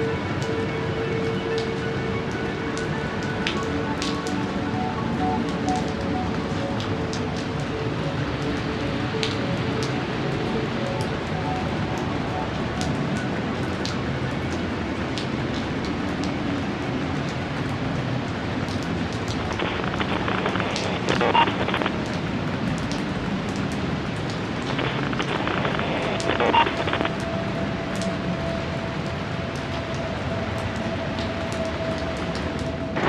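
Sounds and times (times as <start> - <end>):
steady rain falling: 0.0 - 33.0
sharp raindrop strikes: 0.1 - 33.0.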